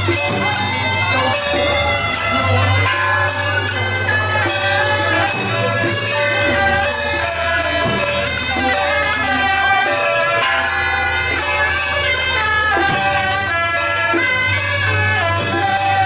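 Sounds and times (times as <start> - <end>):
crashing percussion: 0.0 - 16.0
shrill reedy horn band melody: 0.0 - 16.0.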